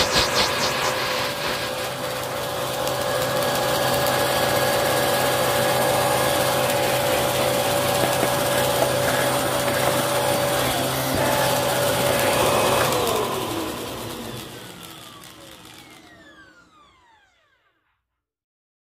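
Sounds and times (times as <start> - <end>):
vacuum cleaner running: 0.0 - 17.7
motor spinning down whine: 0.0 - 17.8.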